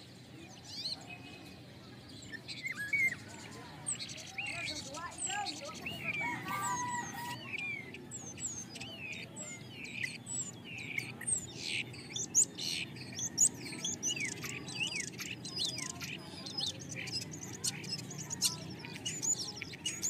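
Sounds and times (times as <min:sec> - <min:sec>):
flock of birds chattering: 0:00.0 - 0:20.0
loud sharp bird calls: 0:00.0 - 0:20.0.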